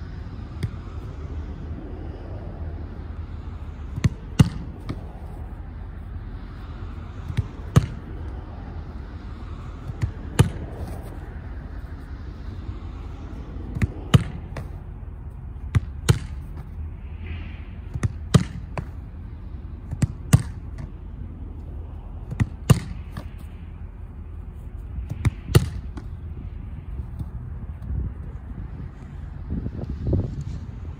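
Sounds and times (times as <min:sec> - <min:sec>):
low rumble of wind: 0:00.0 - 0:30.9.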